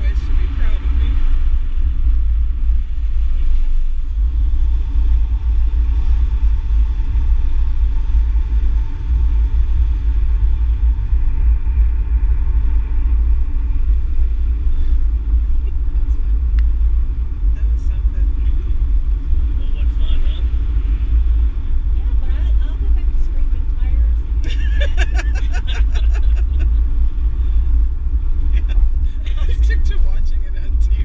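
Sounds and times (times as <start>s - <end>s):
car engine and road noise: 0.0s - 31.0s
faint steady whine: 0.0s - 31.0s.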